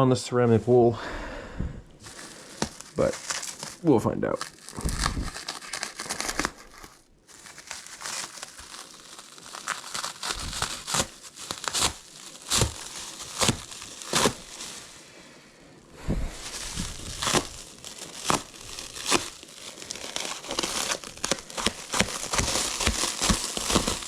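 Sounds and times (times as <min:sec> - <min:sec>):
sharp crackles: 0:02.0 - 0:15.0, 0:16.0 - 0:24.0
packaging rustling and crinkling: 0:02.0 - 0:15.2, 0:15.9 - 0:24.0.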